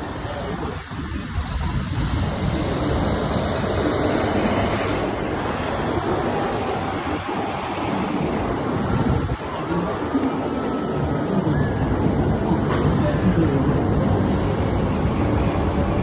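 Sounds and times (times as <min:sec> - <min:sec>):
fairground ride rushing noise: 0:00.0 - 0:16.0.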